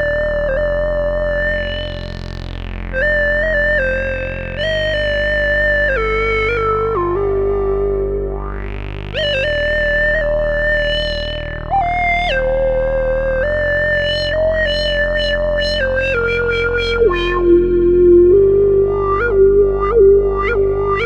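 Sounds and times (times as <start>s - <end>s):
synthesizer held notes: 0.0s - 21.0s.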